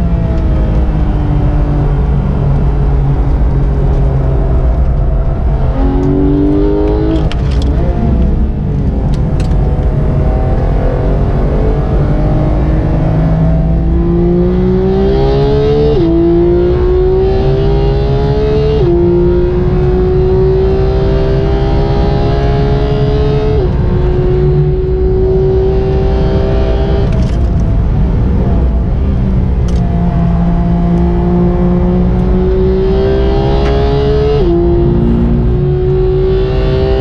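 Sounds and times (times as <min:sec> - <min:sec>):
car engine at full throttle: 0:00.0 - 0:37.0.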